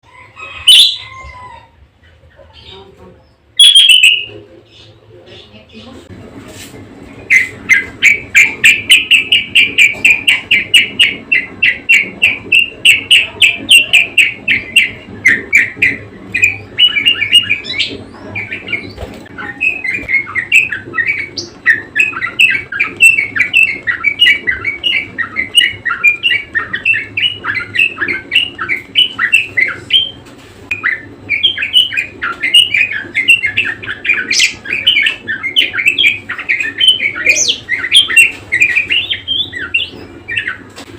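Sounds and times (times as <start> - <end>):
budgerigar warbling and chattering: 0.6 - 1.2, 2.1 - 5.9, 7.3 - 40.6.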